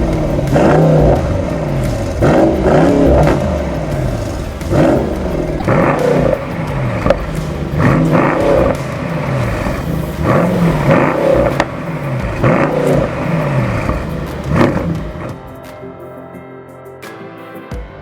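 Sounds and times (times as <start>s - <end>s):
car engine revving: 0.0s - 15.5s
exhaust crackles: 0.0s - 15.5s.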